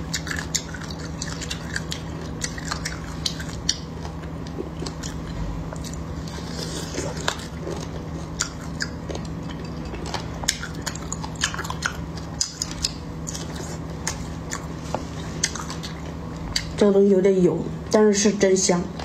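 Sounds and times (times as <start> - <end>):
chewing and biting crispy meat: 0.0 - 16.9.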